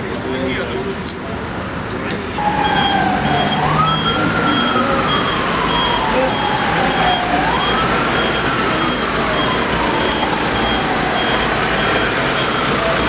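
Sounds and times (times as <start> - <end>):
city street traffic: 0.0 - 13.0
emergency siren wailing: 2.4 - 13.0.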